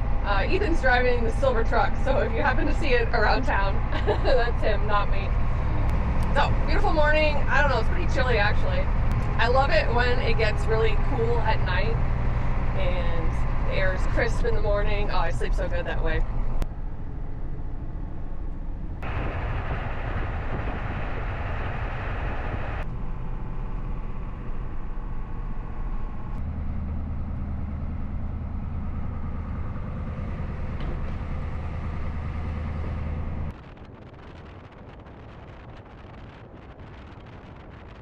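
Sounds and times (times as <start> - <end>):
truck engine and road noise: 0.0 - 38.0.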